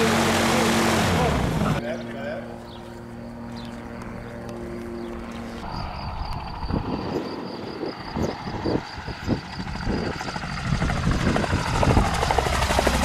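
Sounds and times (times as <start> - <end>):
engine running up: 0.0 - 2.0, 3.1 - 13.0.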